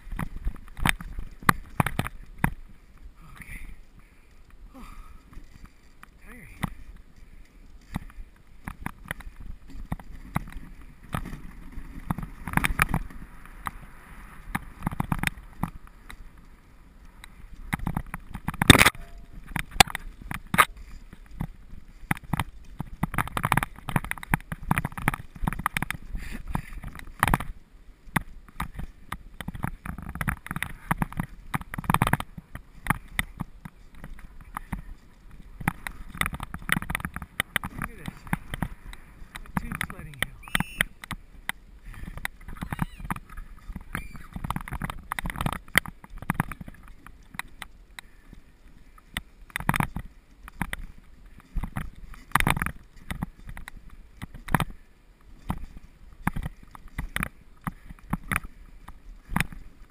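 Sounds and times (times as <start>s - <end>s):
sled clicks and knocks: 0.0s - 59.9s
sled runners scraping snow: 0.0s - 59.9s.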